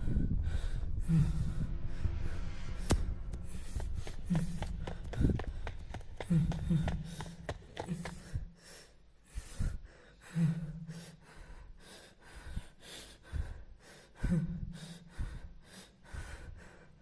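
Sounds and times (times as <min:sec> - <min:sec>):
person breathing heavily: 0:00.0 - 0:17.0.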